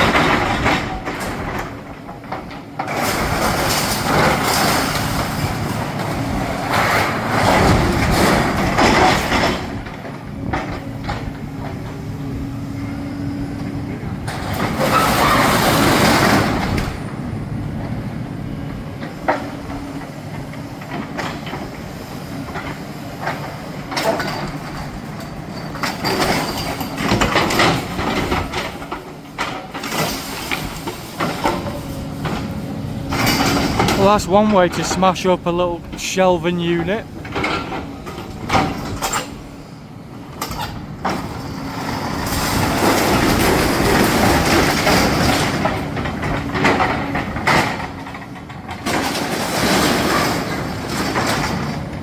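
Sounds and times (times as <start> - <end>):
excavator diesel engine running: 0.0 - 48.8.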